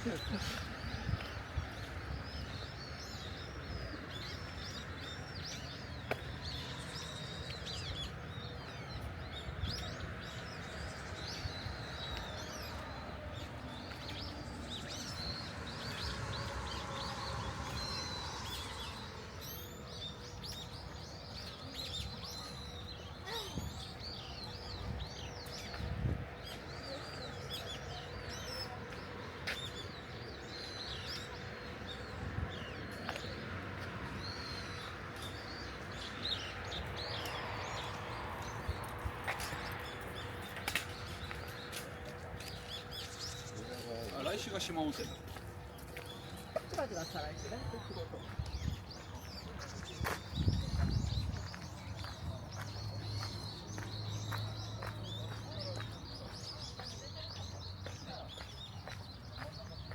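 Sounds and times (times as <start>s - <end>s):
outdoor background noise: 0.0s - 59.9s
small birds chirping: 0.0s - 59.9s.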